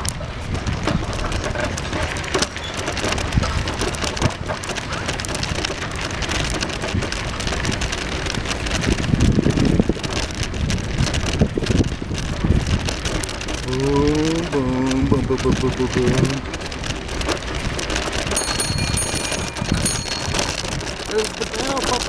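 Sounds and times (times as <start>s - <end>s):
bicycle tyres on dirt trail: 0.0s - 22.0s.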